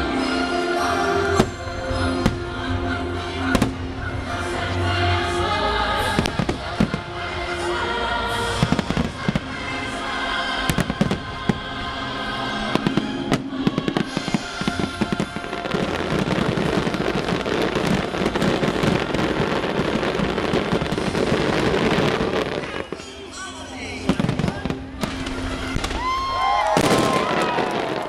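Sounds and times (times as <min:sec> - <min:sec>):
music: 0:00.0 - 0:28.0
fireworks bangs and crackles: 0:01.2 - 0:02.7, 0:03.4 - 0:04.8, 0:06.0 - 0:07.6, 0:08.3 - 0:09.8, 0:10.5 - 0:11.8, 0:12.5 - 0:28.0.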